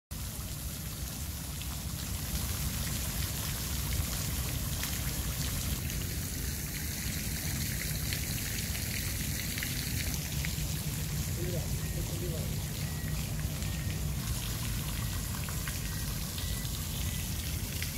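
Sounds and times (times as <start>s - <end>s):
water splashing into pond: 0.1s - 17.9s.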